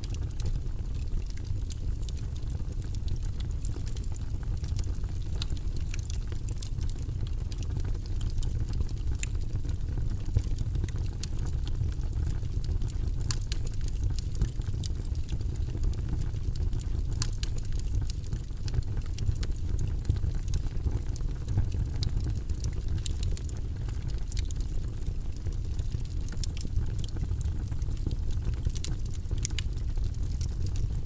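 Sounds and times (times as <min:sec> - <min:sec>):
fire crackling in fireplace: 0:00.0 - 0:31.0.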